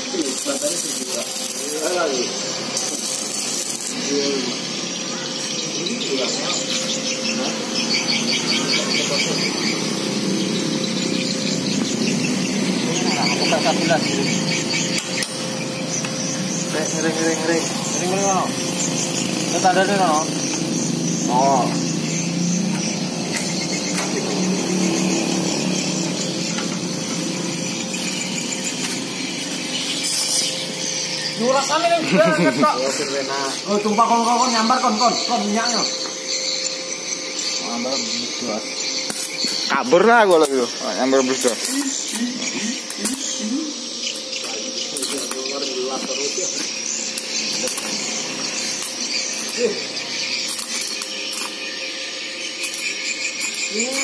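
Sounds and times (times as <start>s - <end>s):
arc welding crackling hiss: 0.0s - 54.0s.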